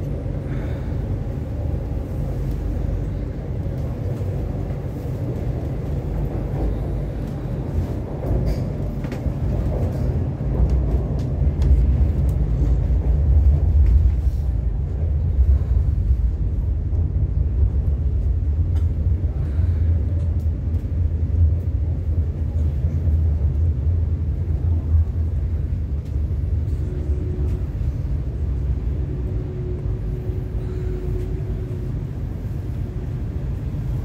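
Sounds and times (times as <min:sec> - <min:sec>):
train rumble from inside car: 0:00.0 - 0:34.0.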